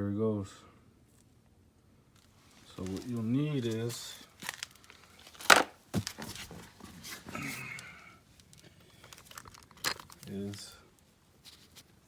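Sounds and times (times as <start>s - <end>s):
light clicks and rustles: 2.2s - 12.0s.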